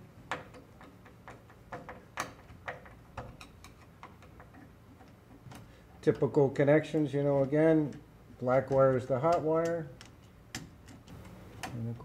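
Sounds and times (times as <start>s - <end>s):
wires clicking in terminal block: 0.2s - 6.3s, 6.9s - 12.0s.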